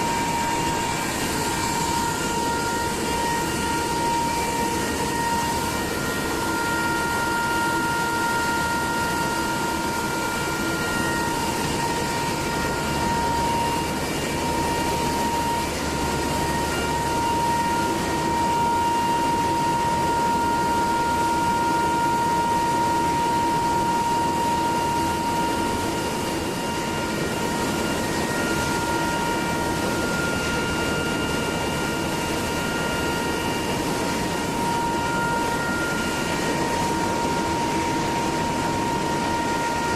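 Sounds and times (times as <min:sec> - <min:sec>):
machinery humming with high whine: 0:00.0 - 0:39.9.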